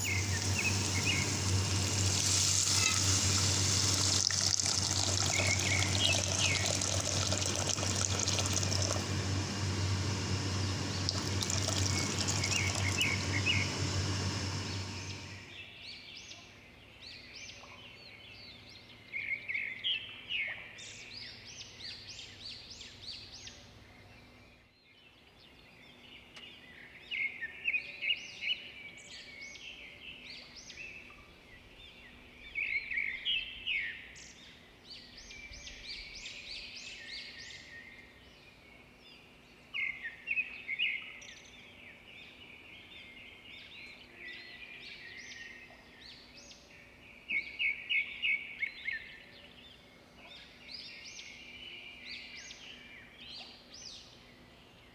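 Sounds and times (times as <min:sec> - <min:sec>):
songbirds chirping and twittering: 0:00.0 - 0:54.9.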